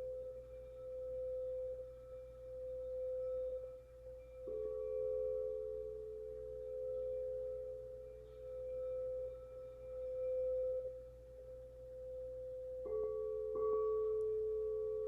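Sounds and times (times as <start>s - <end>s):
singing bowls sustaining pure tones: 0.0s - 15.0s.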